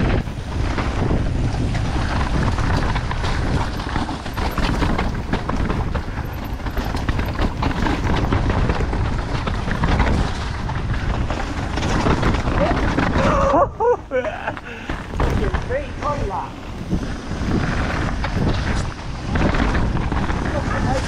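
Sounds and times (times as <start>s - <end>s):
bike chain and frame rattling: 0.0s - 21.0s
bike tyres on dirt: 0.0s - 21.0s.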